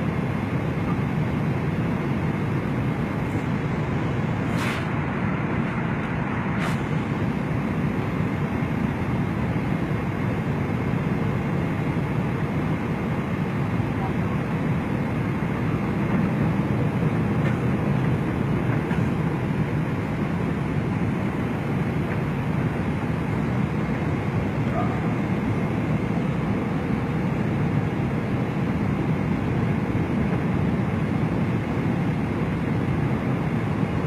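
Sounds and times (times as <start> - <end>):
airliner cabin engine noise: 0.0 - 34.0.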